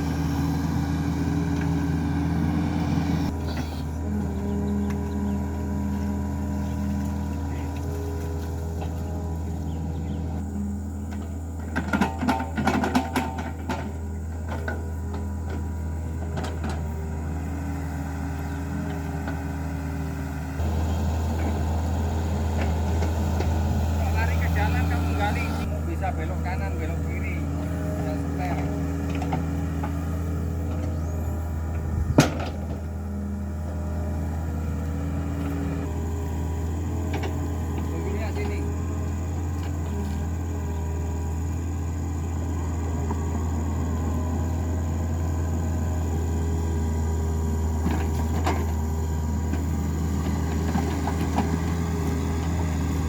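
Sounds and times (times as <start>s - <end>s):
diesel engine humming: 0.0s - 53.0s.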